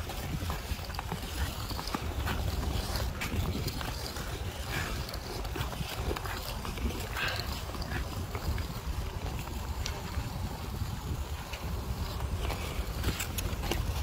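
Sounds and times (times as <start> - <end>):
ice skate blades scraping: 0.0 - 14.0
wind rumbling on microphone: 0.0 - 14.0.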